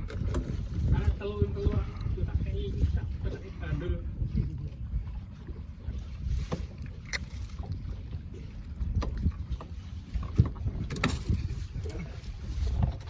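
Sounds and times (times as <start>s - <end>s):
low rumble on a boat: 0.0s - 13.0s
wind on microphone: 0.0s - 13.0s.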